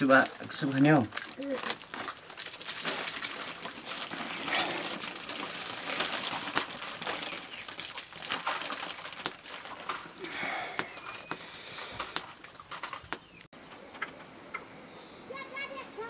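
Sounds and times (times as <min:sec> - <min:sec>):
wood fire hissing and crackling: 0:00.0 - 0:13.5.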